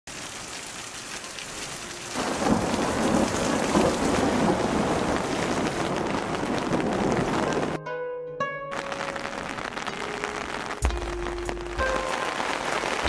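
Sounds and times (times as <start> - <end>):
rain splashing on wet ground: 0.1 - 7.8, 8.7 - 13.0.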